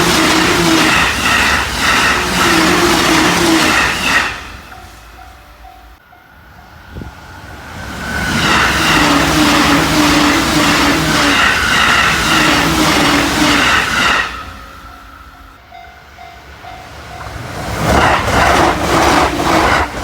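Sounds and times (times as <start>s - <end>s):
train rushing past: 0.0s - 20.0s.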